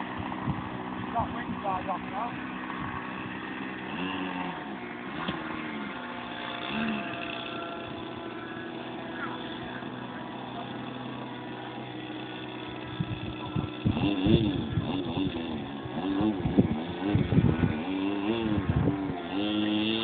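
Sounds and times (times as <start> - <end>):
model aircraft engine running: 0.0 - 20.0
faint voices: 0.7 - 20.0.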